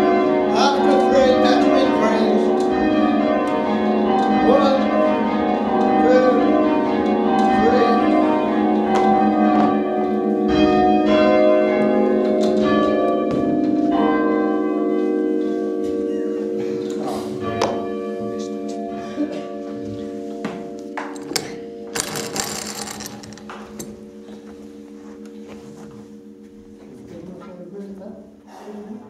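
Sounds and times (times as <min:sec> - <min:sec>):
church bells ringing: 0:00.0 - 0:28.4.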